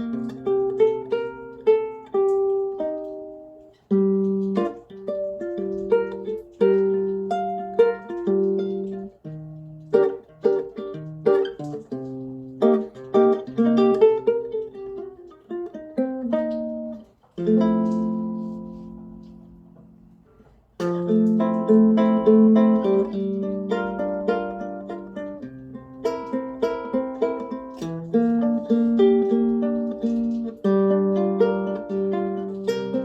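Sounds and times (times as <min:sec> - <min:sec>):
nylon-string guitar fingerstyle: 0:00.0 - 0:33.0.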